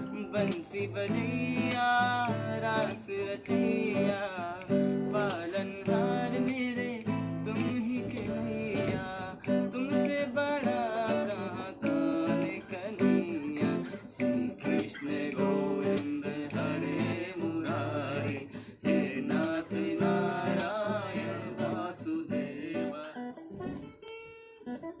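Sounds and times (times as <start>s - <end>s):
man singing devotional song: 0.0s - 23.4s
acoustic guitar strummed chords: 0.0s - 25.0s.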